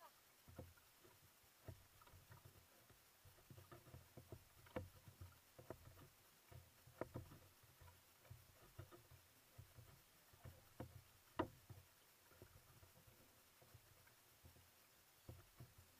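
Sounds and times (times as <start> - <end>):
paddle splashing in water: 0.4 - 15.9
thumps against hull: 0.5 - 14.6, 15.2 - 15.9.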